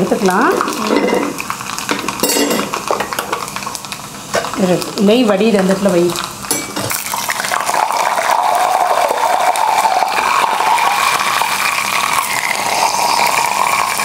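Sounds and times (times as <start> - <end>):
coconut sizzling in hot ghee: 0.0 - 14.0.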